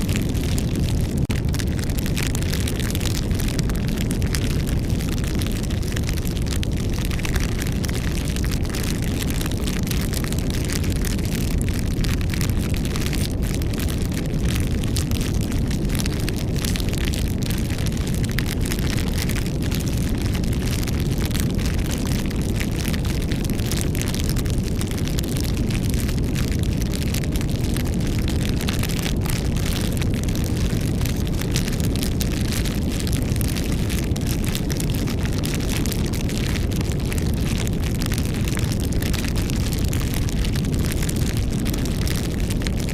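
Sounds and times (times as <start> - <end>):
campfire flame rumble: 0.0 - 42.9
fire crackling and popping: 0.0 - 42.9.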